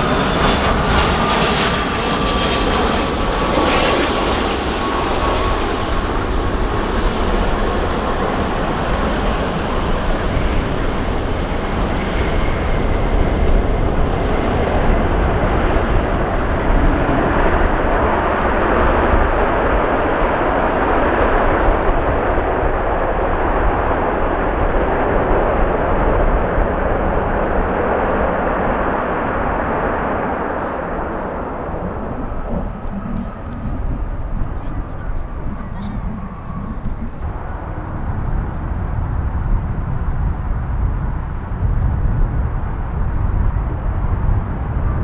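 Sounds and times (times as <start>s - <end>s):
jet engine rush: 0.0s - 45.0s
wind buffeting microphone: 0.0s - 45.0s.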